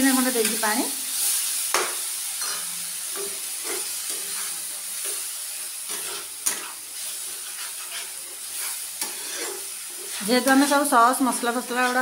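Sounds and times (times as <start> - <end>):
vegetables sizzling in a pan: 0.0 - 12.0
spatula scraping a pan: 0.4 - 12.0.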